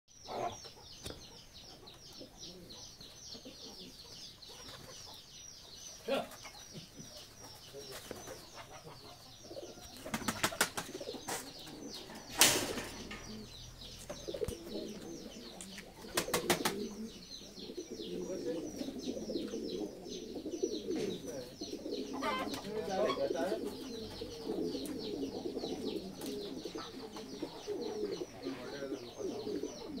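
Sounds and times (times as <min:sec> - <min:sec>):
low bird calls: 0:00.1 - 0:30.0
pigeons cooing: 0:00.2 - 0:30.0.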